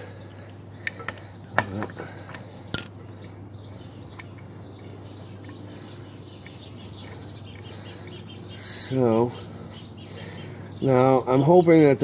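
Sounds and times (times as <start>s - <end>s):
faint bird chirping: 0.0s - 12.0s
steady low hum: 0.0s - 12.0s.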